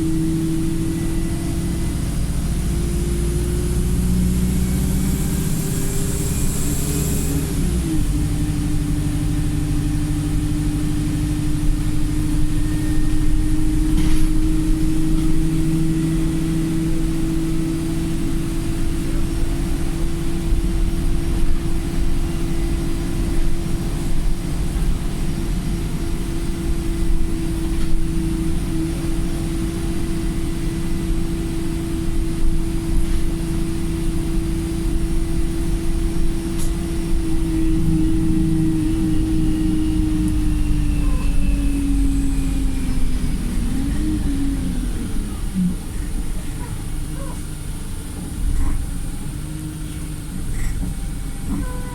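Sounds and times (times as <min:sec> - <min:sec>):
constant whine: 0:00.0 - 0:51.9
diesel bus engine drone: 0:00.0 - 0:51.9
road rumble: 0:00.0 - 0:51.9.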